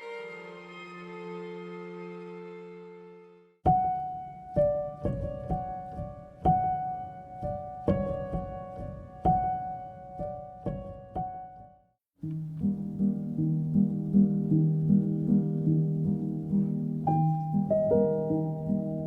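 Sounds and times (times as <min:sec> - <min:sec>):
piano-like keyboard music: 0:03.7 - 0:19.0.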